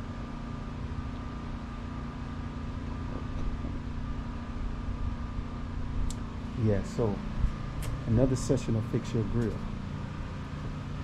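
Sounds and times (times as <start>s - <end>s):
climate fan running: 0.0s - 11.0s.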